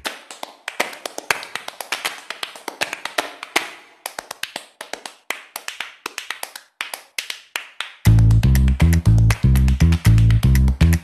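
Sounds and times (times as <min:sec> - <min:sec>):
quick sharp hand claps: 0:00.0 - 0:11.0.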